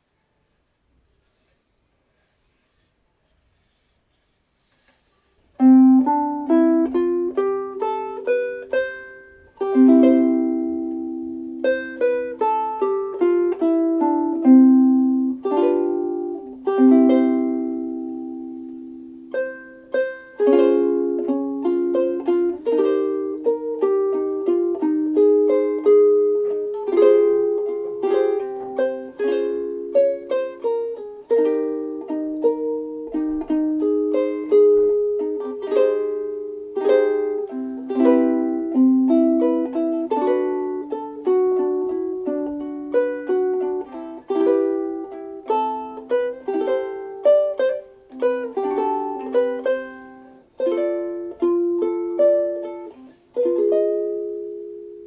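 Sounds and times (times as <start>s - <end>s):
ukulele playing a tune: 3.6s - 55.0s.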